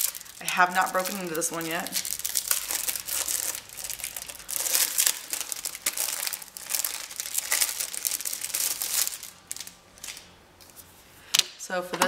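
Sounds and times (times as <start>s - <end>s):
packaging crinkling and rustling: 0.0s - 10.9s.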